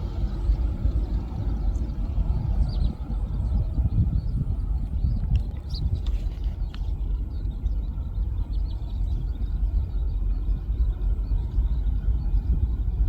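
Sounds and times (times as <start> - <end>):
distant aircraft engines rumbling: 0.0 - 13.0.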